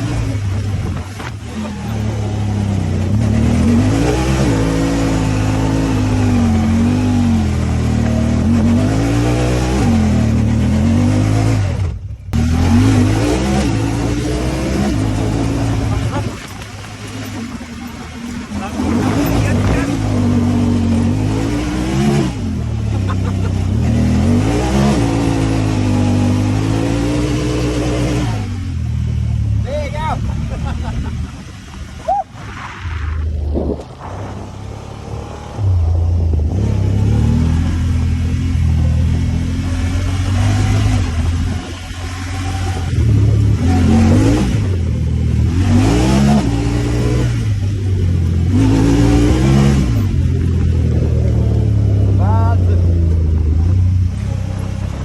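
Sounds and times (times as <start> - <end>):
engine running under load: 0.0 - 55.0.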